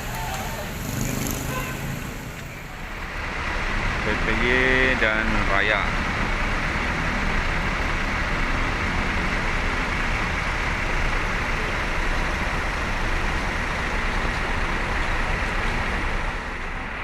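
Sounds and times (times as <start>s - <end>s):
diesel bus engine rumbling: 0.0s - 17.0s.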